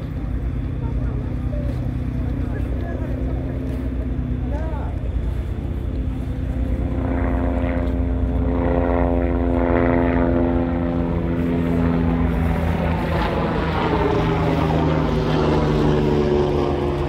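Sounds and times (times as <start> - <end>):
ferry engines humming: 0.0 - 17.0
helicopter flying overhead: 0.0 - 17.0.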